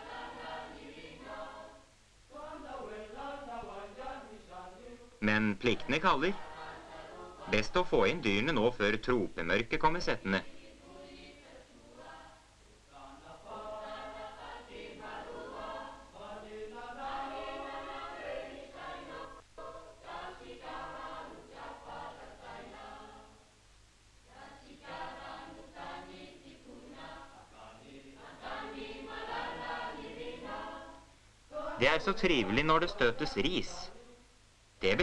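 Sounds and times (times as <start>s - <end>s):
choir singing: 0.0s - 23.4s, 24.3s - 34.2s.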